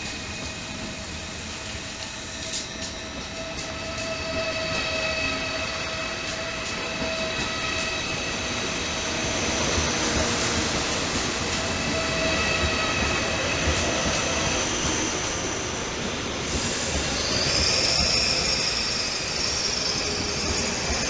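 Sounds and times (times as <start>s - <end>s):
high-pitched train tones: 0.0s - 21.0s
train wheels rumbling on rails: 0.0s - 21.0s.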